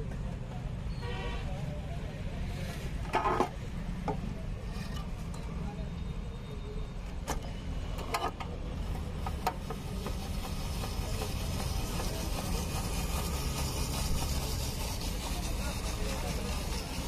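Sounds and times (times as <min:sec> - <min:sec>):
street traffic rumble and hiss: 0:00.0 - 0:17.0.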